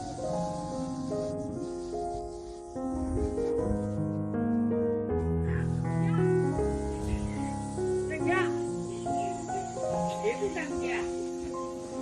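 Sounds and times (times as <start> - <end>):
slow sustained piano notes: 0.0 - 12.0.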